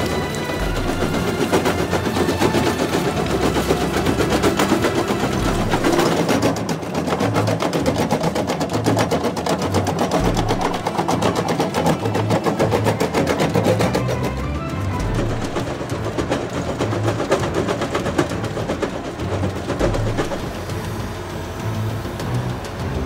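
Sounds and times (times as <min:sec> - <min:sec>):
music with ticking beat and bass: 0:00.0 - 0:23.0.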